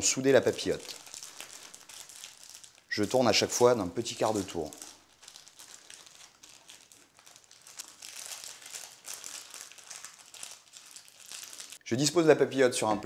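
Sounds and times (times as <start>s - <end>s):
parchment paper crinkling: 0.0s - 11.8s.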